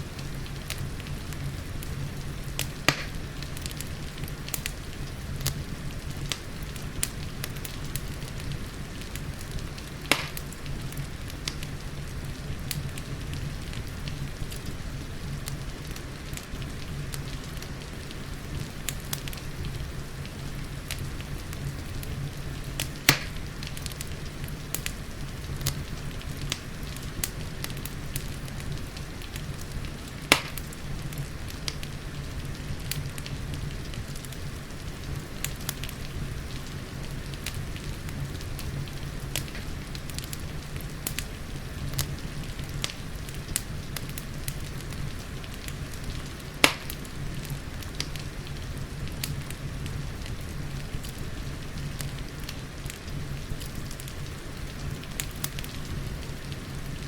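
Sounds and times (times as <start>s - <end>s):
wood fire crackling: 0.0s - 57.0s
sharp pops of fire: 0.1s - 11.8s, 17.2s - 19.8s, 20.8s - 31.9s, 35.1s - 57.0s.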